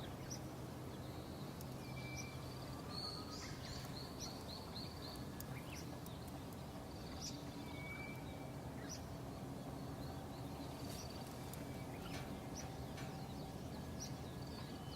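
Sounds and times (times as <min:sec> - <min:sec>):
faint hum: 0:00.0 - 0:14.9.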